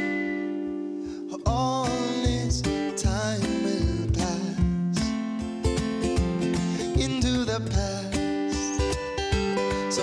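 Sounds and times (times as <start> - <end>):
song with acoustic guitar and beat: 0.0 - 10.0.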